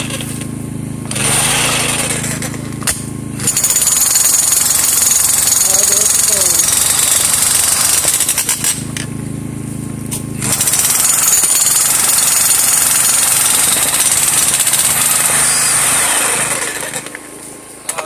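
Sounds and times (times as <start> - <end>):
electric jackhammer breaking rock: 0.0 - 9.1, 10.4 - 17.3.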